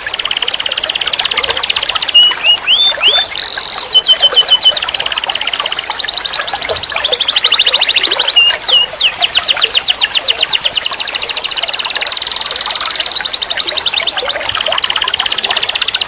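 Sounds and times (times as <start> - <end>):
canary trilling: 0.0 - 5.0, 5.9 - 16.0.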